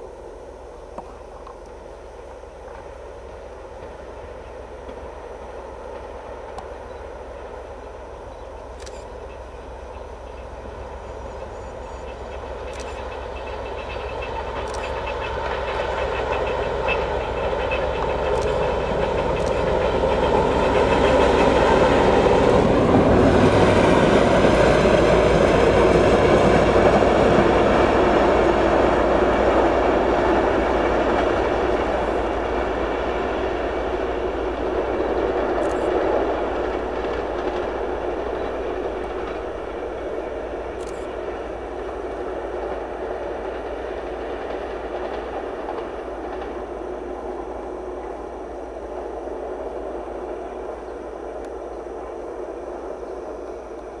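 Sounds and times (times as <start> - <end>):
diesel locomotive passing: 0.0 - 54.0.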